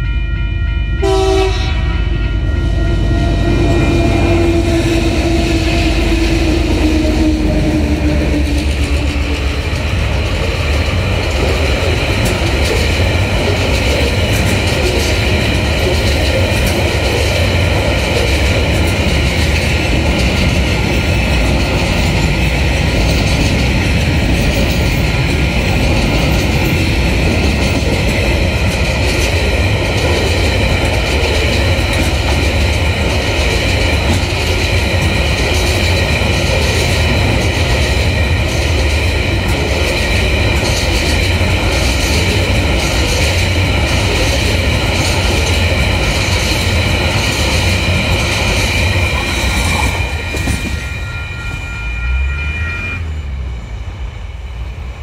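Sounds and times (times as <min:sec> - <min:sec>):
crossing bell ringing: 0:00.0 - 0:53.5
freight train wheels clattering: 0:02.9 - 0:51.6.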